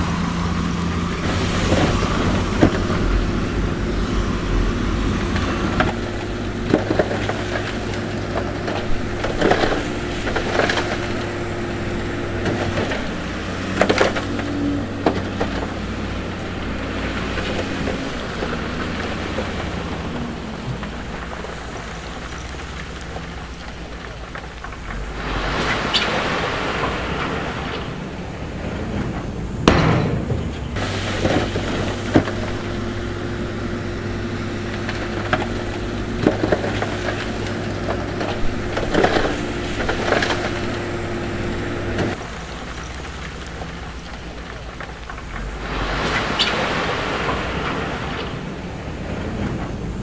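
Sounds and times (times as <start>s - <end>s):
heavy diesel machinery running: 0.0s - 50.0s
steady engine drone: 0.0s - 50.0s.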